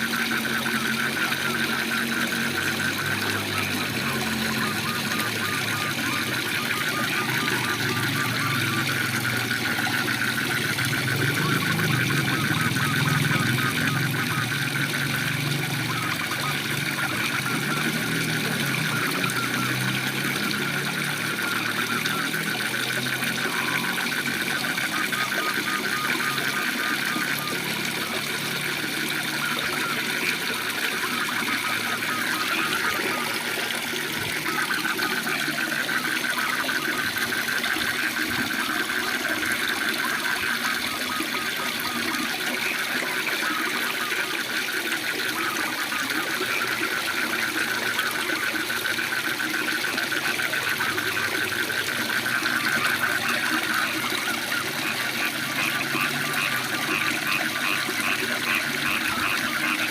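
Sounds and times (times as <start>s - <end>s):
frogs trilling: 0.0s - 59.9s.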